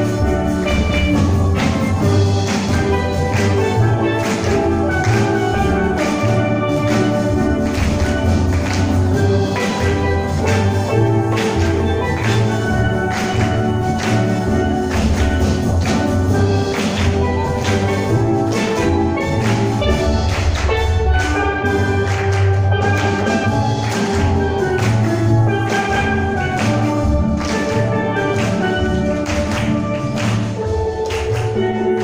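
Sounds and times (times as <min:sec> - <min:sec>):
steel pan melody: 0:00.0 - 0:32.0.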